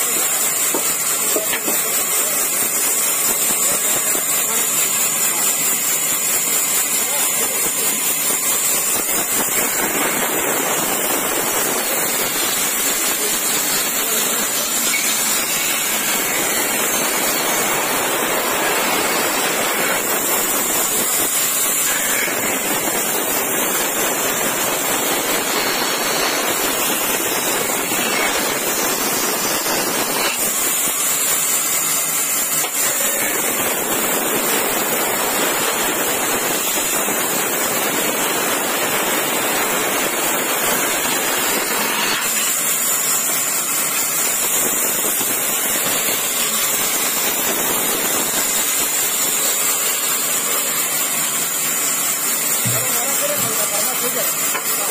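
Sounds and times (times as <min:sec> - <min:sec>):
band saw cutting wood: 0:00.0 - 0:37.8, 0:40.5 - 0:54.9.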